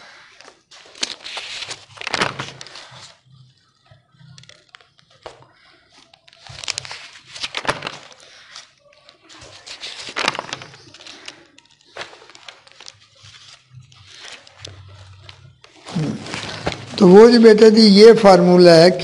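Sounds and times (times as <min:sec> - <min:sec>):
paper rustling and crinkling: 0:00.0 - 0:17.6.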